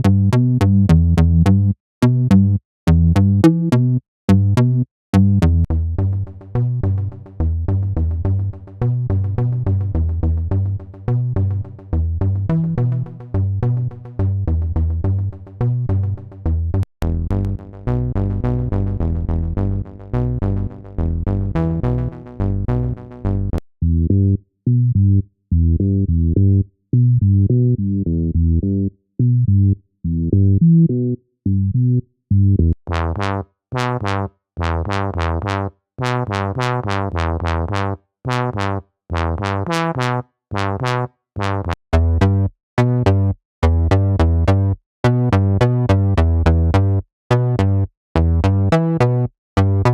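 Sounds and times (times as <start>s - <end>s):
synthesizer bass riff: 0.0s - 25.0s, 30.1s - 49.9s.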